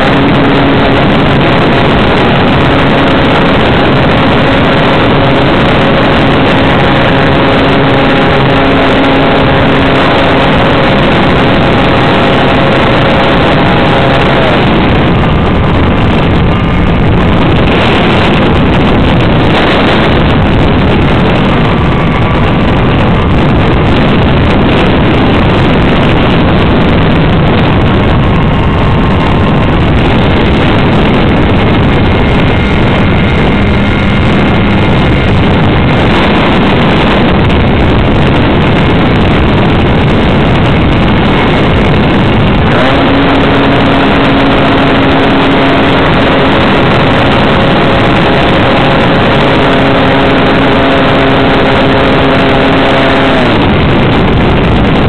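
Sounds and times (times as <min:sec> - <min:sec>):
model airplane motor and propeller: 0:00.0 - 0:55.0
wind rush on microphone: 0:00.0 - 0:55.0.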